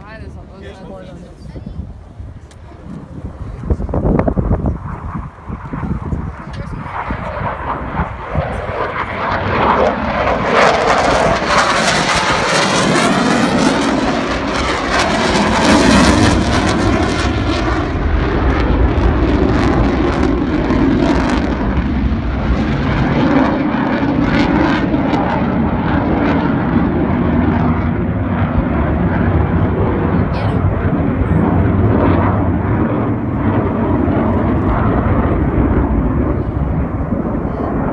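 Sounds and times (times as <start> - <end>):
loud aircraft engine: 1.8 - 37.9.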